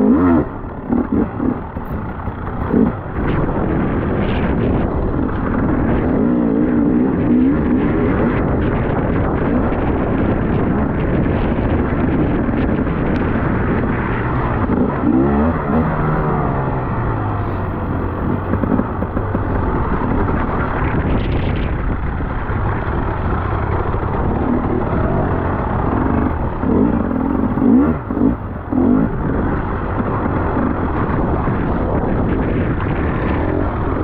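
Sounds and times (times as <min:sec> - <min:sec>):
dirt bike engine revving: 0:00.0 - 0:10.5, 0:11.1 - 0:20.4, 0:23.3 - 0:31.6
wind noise on microphone: 0:00.0 - 0:34.0.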